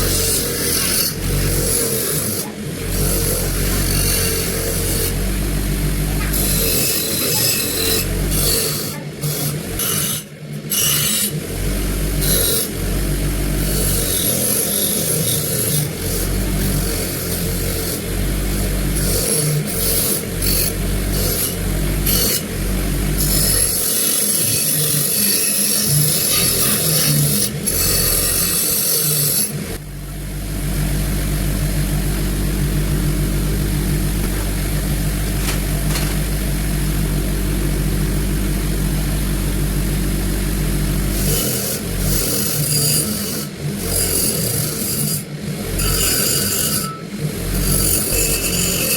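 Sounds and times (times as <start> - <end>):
power tool motor hum: 0.0 - 48.9.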